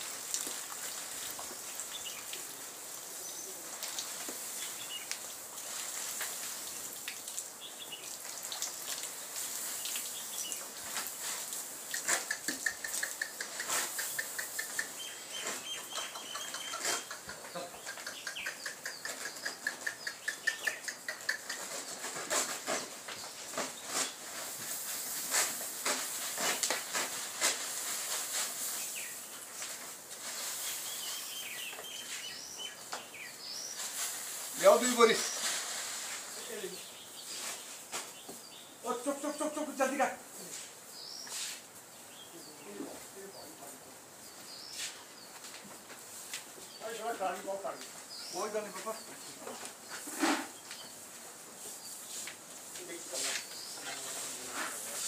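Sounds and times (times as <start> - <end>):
birds chirping: 1.4 - 25.2, 30.2 - 55.0.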